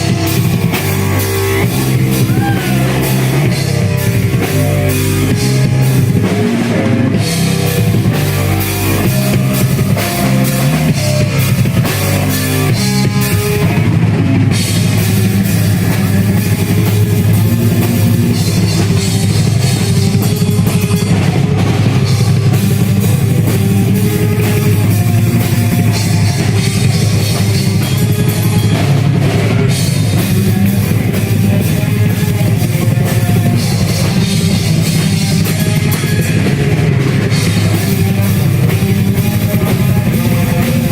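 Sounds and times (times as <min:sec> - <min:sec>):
drum kit: 0:00.0 - 0:40.9
electric guitar chords: 0:00.0 - 0:40.9.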